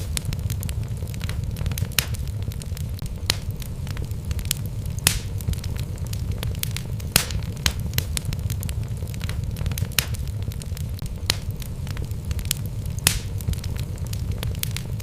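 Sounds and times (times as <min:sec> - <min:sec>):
logs crackling and popping: 0:00.0 - 0:15.0
low rumble of fire: 0:00.0 - 0:15.0.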